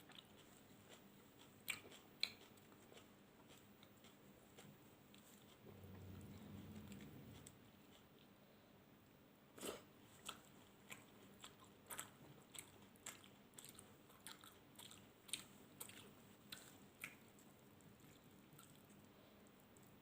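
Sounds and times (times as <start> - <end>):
person chewing crunchy food: 0.0 - 8.3, 9.6 - 20.0.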